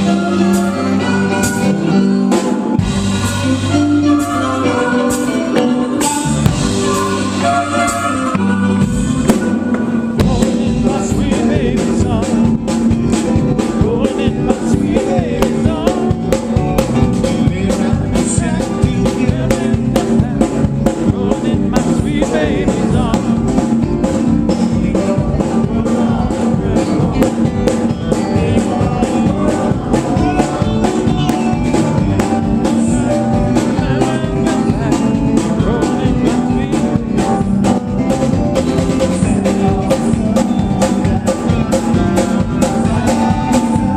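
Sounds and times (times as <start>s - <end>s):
drum kit beat: 0.0s - 43.9s
live band playing: 0.0s - 43.9s
people singing: 0.0s - 43.9s.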